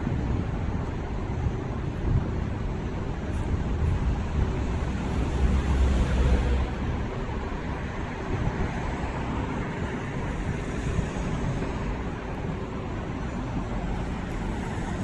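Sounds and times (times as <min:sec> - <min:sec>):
city traffic noise: 0:00.0 - 0:15.0
wind buffeting microphone: 0:00.0 - 0:15.0.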